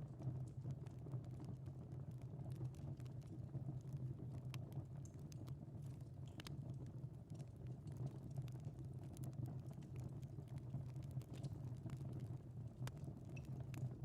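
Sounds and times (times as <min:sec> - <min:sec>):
low rumble of flames: 0:00.0 - 0:14.0.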